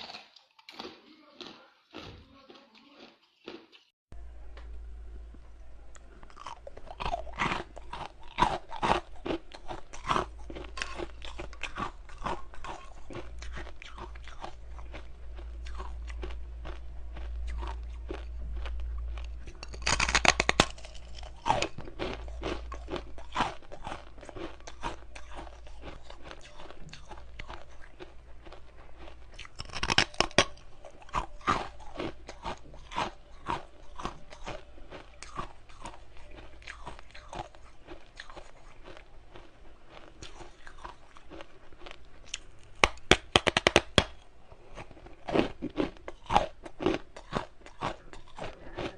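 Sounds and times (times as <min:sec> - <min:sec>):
low hum: 0:04.1 - 0:45.2.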